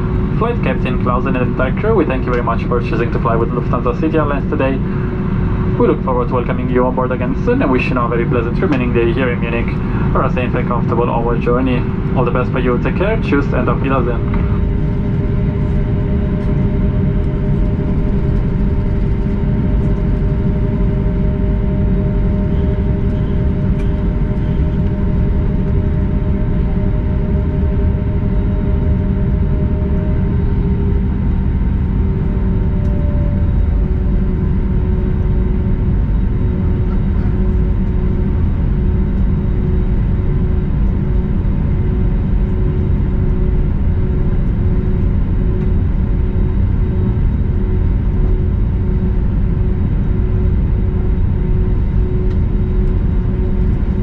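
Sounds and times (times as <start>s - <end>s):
low engine rumble: 0.0s - 54.0s
steady whining tones: 0.0s - 54.0s.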